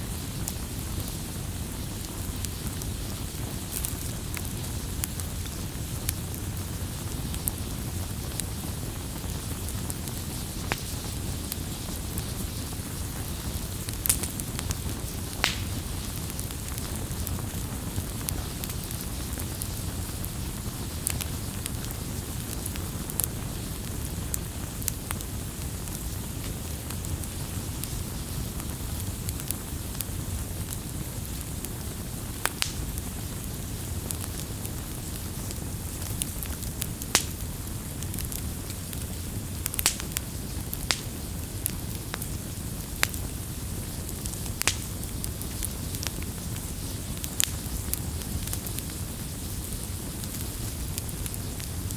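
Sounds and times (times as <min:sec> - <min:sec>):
bonfire crackling and popping: 0:00.0 - 0:51.9
flames rumbling and hissing: 0:00.0 - 0:51.9.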